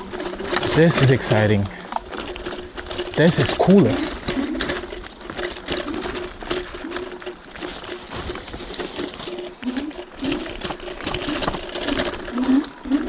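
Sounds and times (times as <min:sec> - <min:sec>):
electric scooter motor whining: 0:00.0 - 0:13.0
scooter rattling on rough trail: 0:00.0 - 0:13.0.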